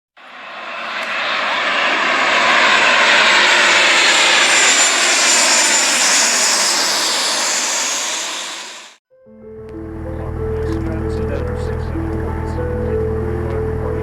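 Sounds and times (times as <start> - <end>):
aircraft engine noise: 0.2 - 9.0, 9.7 - 14.0.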